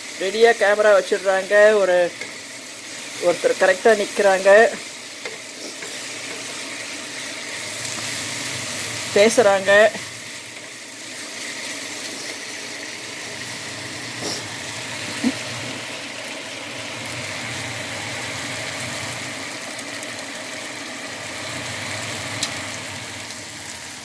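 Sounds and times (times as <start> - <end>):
kitchen fan running: 0.0 - 24.0
vegetables sizzling in a wok: 0.0 - 24.0.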